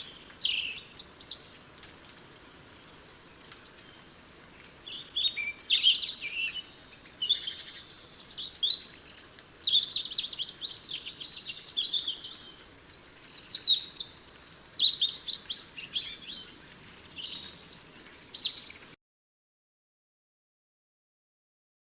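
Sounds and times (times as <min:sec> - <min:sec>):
songbirds chirping and trilling: 0:00.0 - 0:19.0.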